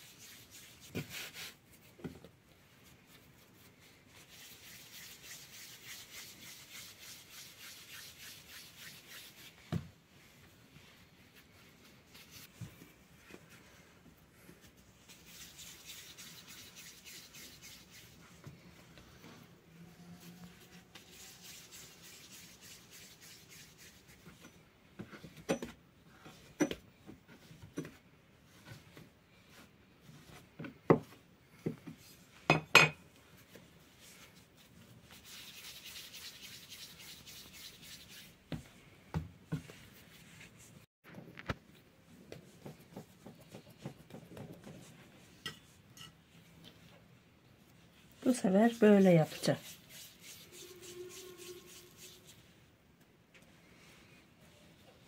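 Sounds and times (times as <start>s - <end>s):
hands kneading dough: 0.0s - 19.5s, 26.1s - 45.9s, 47.6s - 52.6s.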